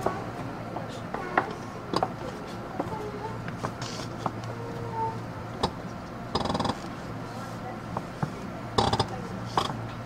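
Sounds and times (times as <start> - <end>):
electric train interior hum: 0.0 - 10.0.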